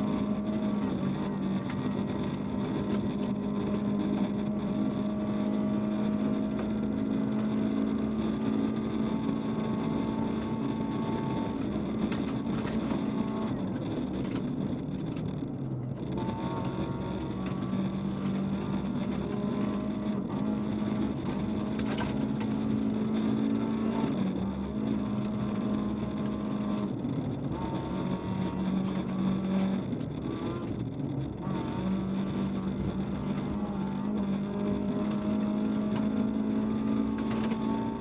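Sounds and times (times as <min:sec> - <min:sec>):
car engine running hard: 0:00.0 - 0:38.0.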